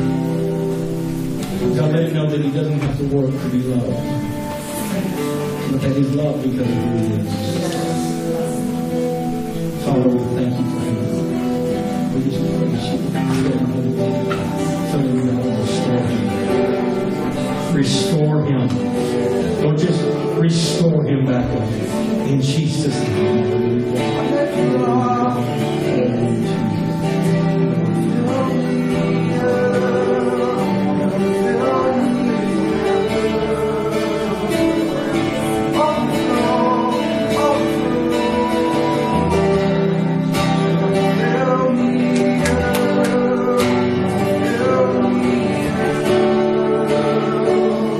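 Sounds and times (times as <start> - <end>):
acoustic guitar playing: 0.0 - 47.9
person singing: 0.0 - 47.9.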